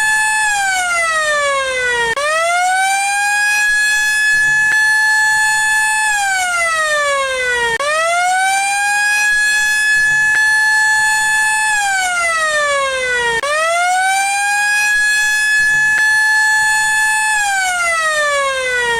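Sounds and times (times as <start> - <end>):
warning siren wailing: 0.0 - 18.9.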